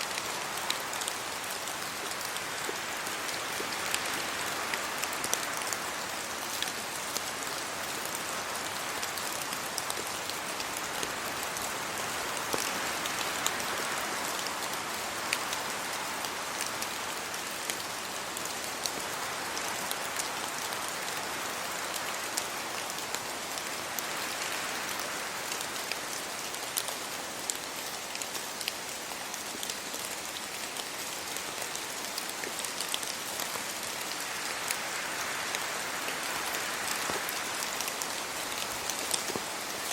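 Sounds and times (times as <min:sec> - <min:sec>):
rain on road and leaves: 0:00.0 - 0:39.9
wind through trees: 0:00.0 - 0:39.9.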